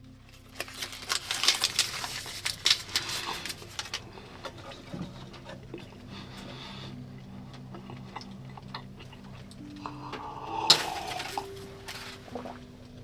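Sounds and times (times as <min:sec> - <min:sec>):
crinkling and crackling: 0:00.0 - 0:13.0.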